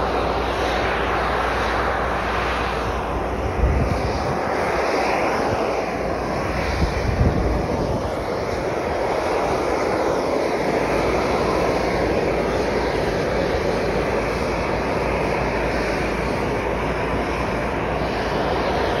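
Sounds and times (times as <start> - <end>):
hot spring boiling and splashing: 0.0 - 19.0.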